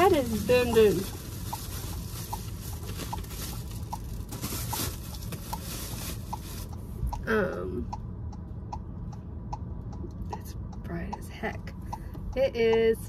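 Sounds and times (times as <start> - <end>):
car turn signal ticking: 0.0 - 13.0
idling engine and cabin hum: 0.0 - 13.0.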